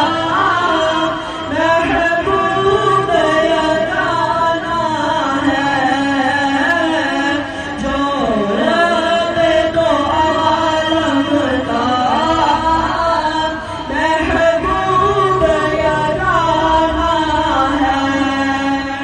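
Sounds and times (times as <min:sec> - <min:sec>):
young man chanting devotional poem: 0:00.0 - 0:19.0.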